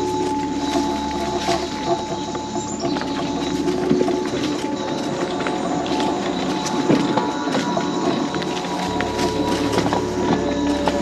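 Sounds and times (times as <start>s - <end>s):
scooter motor whine: 0.0s - 11.0s.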